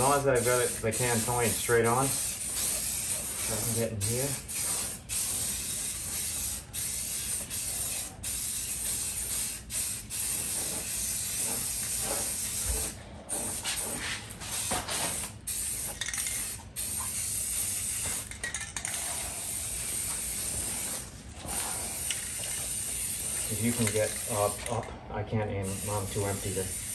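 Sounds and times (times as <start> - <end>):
aerosol spray can hissing: 0.0 - 18.3, 19.0 - 24.7, 25.7 - 26.9.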